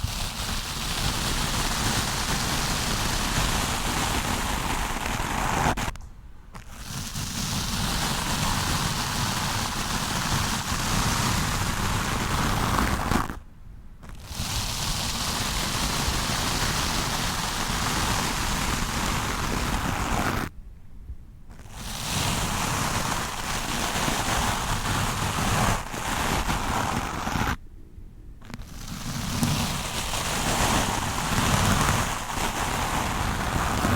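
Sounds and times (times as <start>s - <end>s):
brush scrubbing against microphone: 0.0s - 6.0s, 6.6s - 13.4s, 14.0s - 20.5s, 21.5s - 27.6s, 28.4s - 33.9s.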